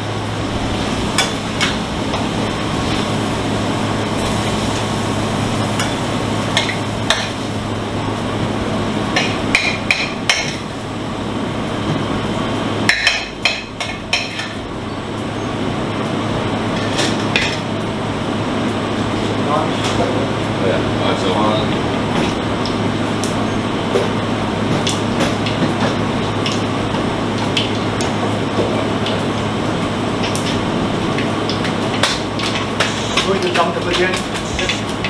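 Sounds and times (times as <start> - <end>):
kitchen ventilation roar: 0.0 - 35.0.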